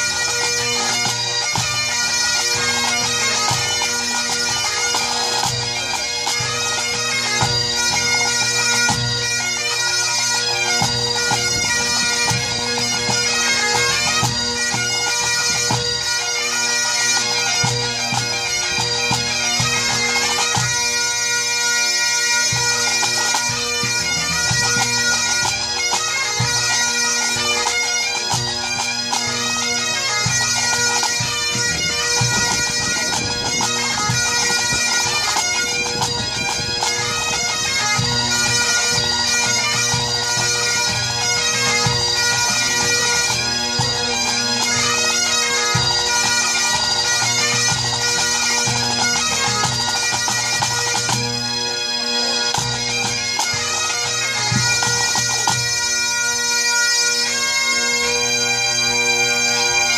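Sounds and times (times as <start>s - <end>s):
bagpipes with drones: 0.0s - 59.9s.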